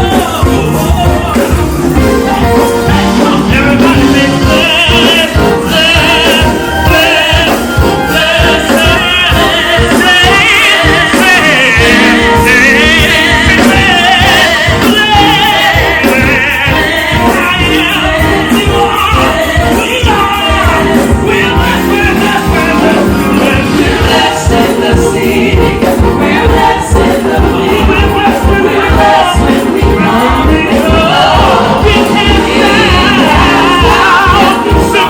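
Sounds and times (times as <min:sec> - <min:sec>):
drum beat: 0:00.0 - 0:35.0
voices singing with vibrato: 0:00.0 - 0:35.0.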